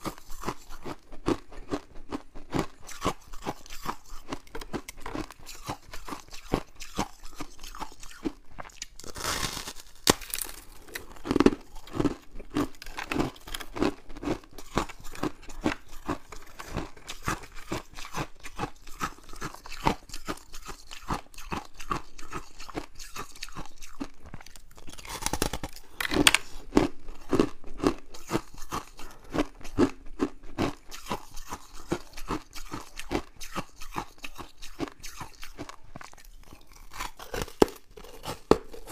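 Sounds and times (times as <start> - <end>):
frost crunching when chewed: 0.0 - 38.9.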